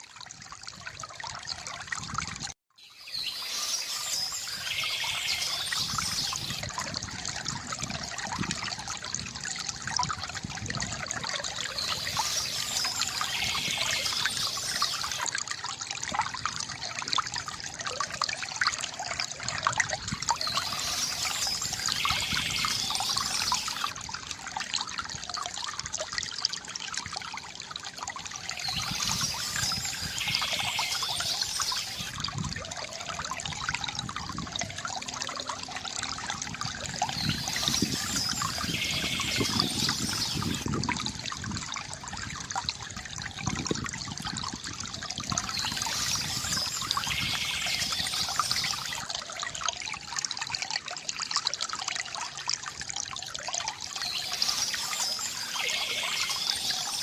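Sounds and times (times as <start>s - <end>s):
fountain water trickling: 0.0s - 57.0s.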